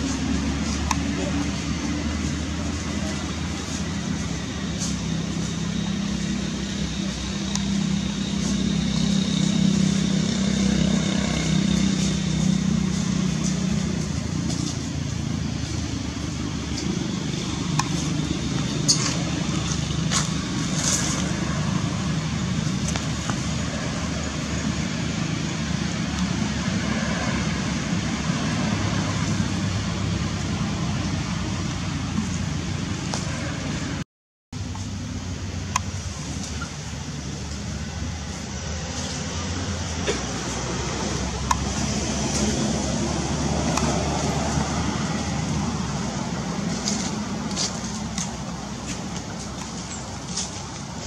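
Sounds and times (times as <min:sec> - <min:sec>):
low engine-like hum: 0:00.0 - 0:34.0, 0:34.6 - 0:51.0.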